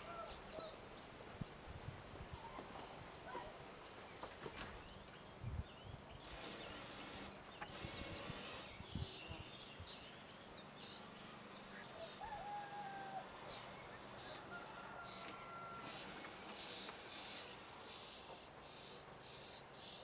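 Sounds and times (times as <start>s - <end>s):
birds chirping: 0.0s - 1.6s, 3.0s - 20.0s.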